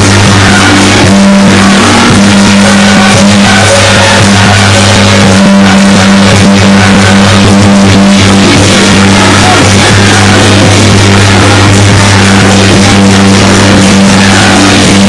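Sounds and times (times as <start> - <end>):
loud instrumental music: 0.0 - 15.0
steady low hum: 0.0 - 15.0.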